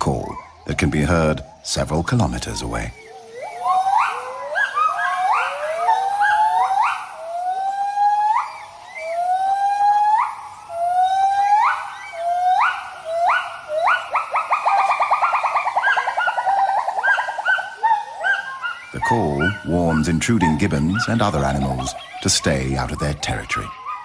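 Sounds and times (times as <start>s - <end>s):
gibbons hooting: 0.0s - 24.0s.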